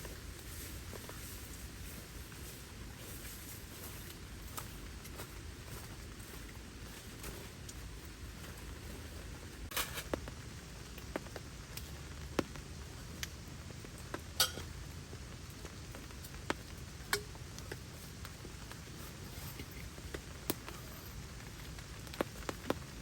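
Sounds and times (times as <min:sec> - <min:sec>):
steady rain hiss: 0:00.0 - 0:23.0
raindrops tapping on a tent: 0:04.0 - 0:23.0.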